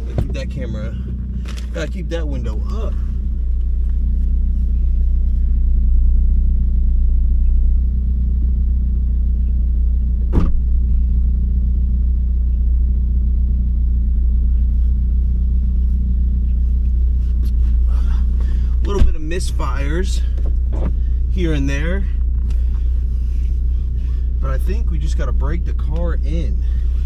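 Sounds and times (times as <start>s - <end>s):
car engine drone from inside cabin: 0.0s - 27.0s.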